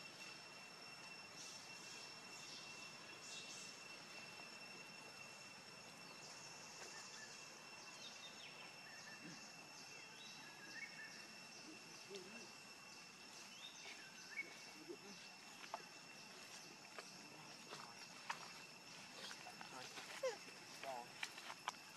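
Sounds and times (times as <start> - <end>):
faint chirps: 0.0 - 21.9.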